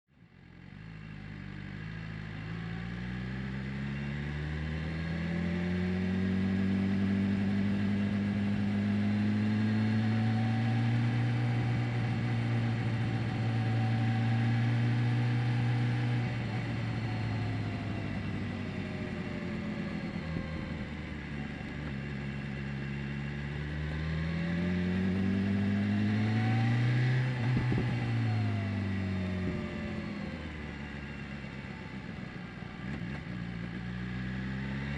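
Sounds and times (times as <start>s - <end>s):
motorcycle engine revving: 1.3s - 34.9s.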